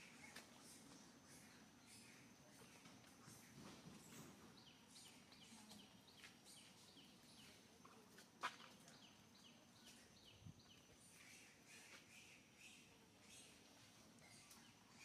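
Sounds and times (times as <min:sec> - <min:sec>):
small bird chirping: 0:00.0 - 0:07.7, 0:08.5 - 0:15.0.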